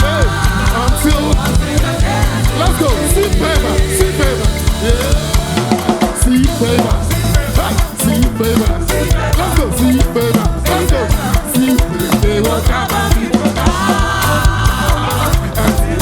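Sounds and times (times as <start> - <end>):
drum kit and bass beat: 0.0 - 16.0
upbeat gospel music: 0.0 - 16.0.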